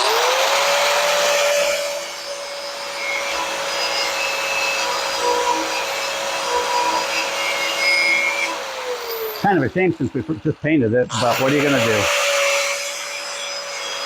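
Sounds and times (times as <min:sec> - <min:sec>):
power tool abrasive whine: 0:00.0 - 0:14.0.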